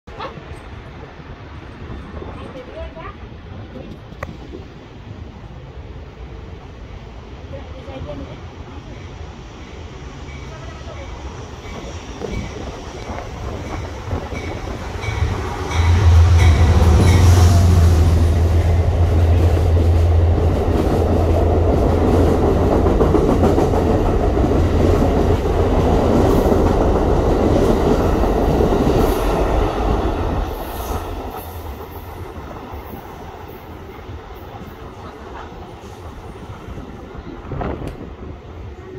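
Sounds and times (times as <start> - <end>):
train cars rumbling on rails: 0.1 - 38.9.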